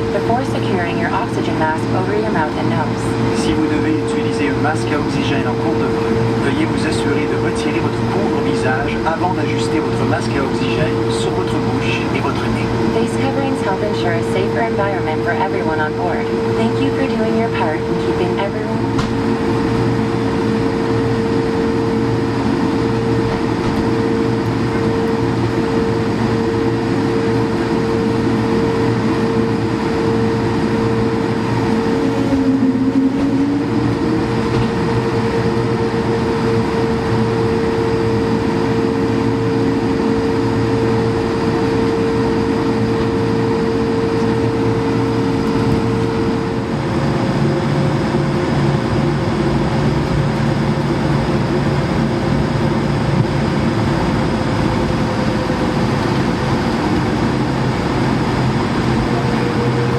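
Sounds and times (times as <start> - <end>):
airplane cabin hum with whine: 0.0 - 59.9.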